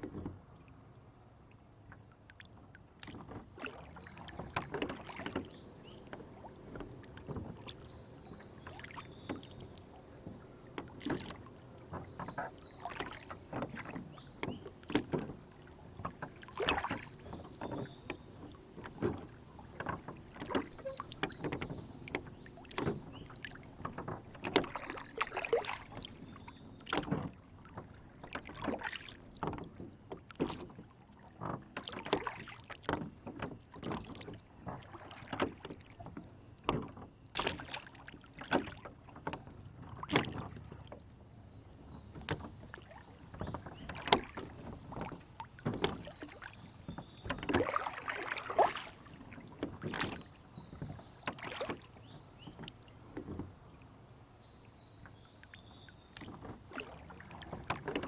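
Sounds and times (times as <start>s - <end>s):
water lapping against a boat hull: 0.0s - 58.0s
small splashes: 1.9s - 54.0s, 54.7s - 58.0s
boat knocking: 3.0s - 54.0s, 54.9s - 58.0s.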